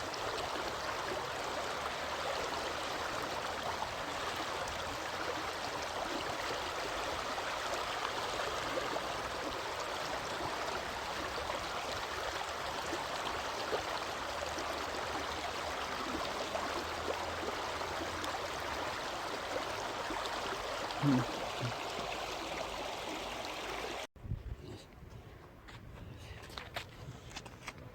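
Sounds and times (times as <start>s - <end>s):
running water rushing: 0.0s - 24.1s.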